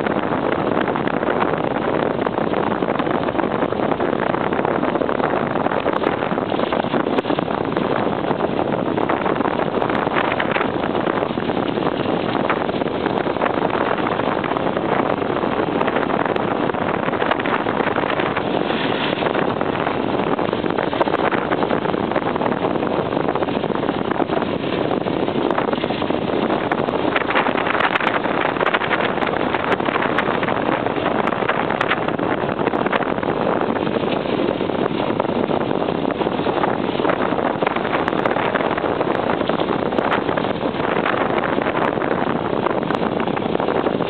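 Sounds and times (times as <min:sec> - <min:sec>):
vehicle engine and tyre noise: 0:00.0 - 0:44.0
wind rushing on microphone: 0:00.0 - 0:44.0.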